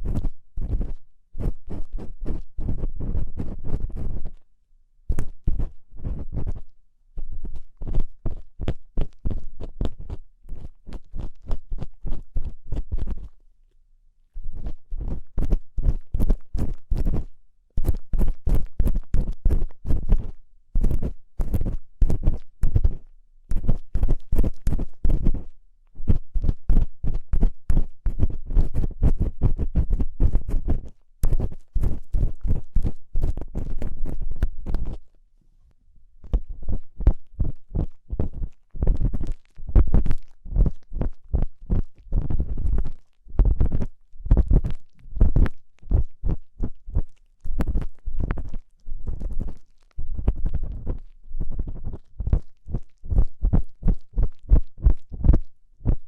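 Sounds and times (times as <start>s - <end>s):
tool scraping inside microphone ear: 0.0s - 4.4s, 5.1s - 13.3s, 14.4s - 35.0s, 36.2s - 54.0s.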